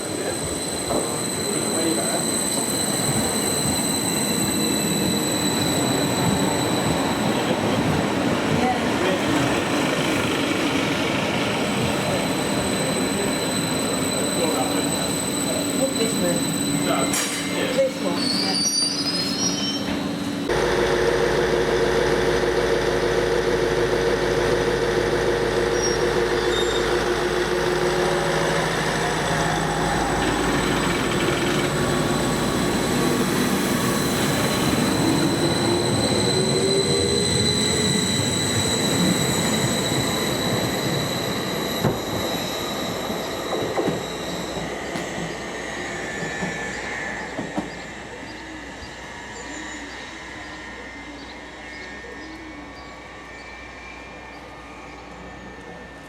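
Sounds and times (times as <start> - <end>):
high wheel squeal: 0.0 - 8.7, 9.3 - 56.0
train engine pulling away: 0.0 - 56.0.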